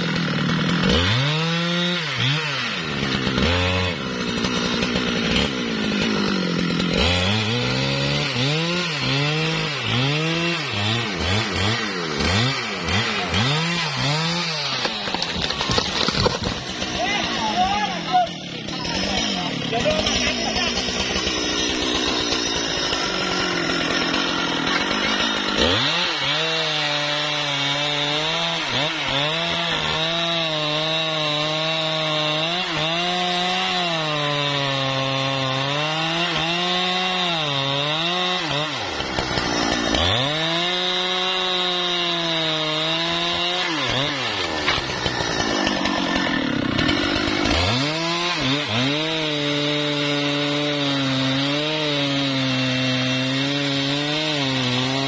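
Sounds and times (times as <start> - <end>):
chainsaw cutting into trunk: 0.0 - 55.0.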